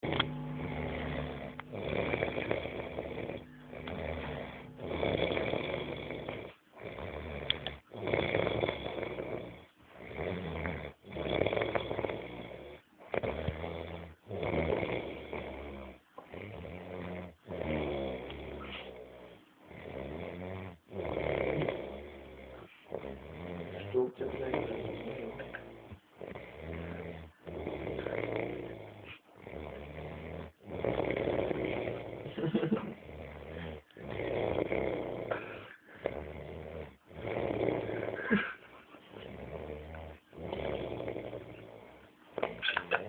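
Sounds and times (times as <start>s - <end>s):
person snoring: 0.0s - 43.0s.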